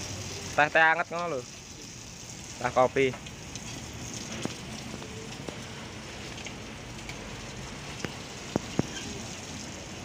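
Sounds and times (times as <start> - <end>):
fluid splashing onto ground: 0.0 - 10.0.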